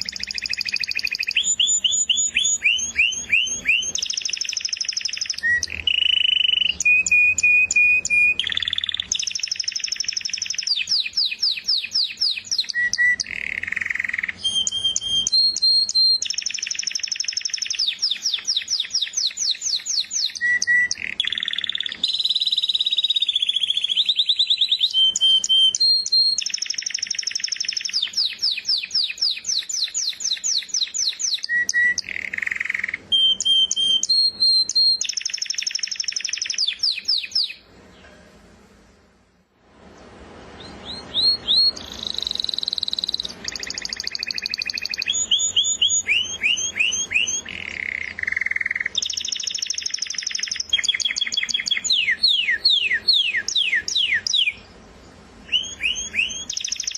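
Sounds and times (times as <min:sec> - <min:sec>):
canary singing: 0:00.0 - 0:38.1, 0:40.5 - 0:56.9.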